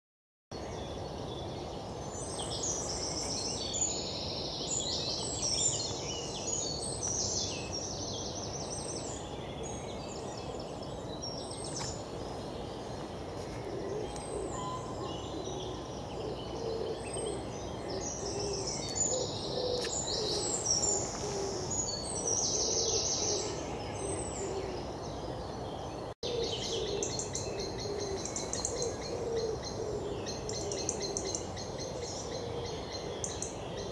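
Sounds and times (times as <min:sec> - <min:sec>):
birds twittering and trilling: 0:00.5 - 0:33.9.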